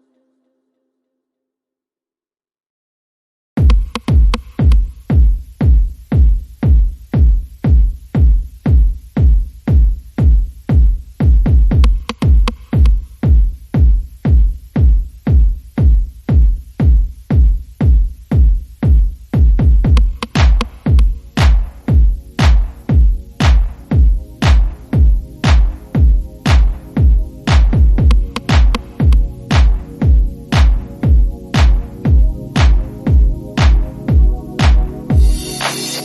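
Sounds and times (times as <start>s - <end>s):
electronic music with kick drum: 3.6s - 36.0s.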